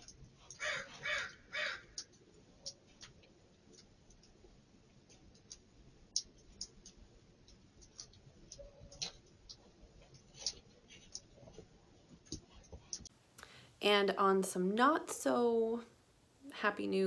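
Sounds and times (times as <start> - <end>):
faint irregular clicks: 0.0 - 13.7
low background hiss: 2.2 - 17.0.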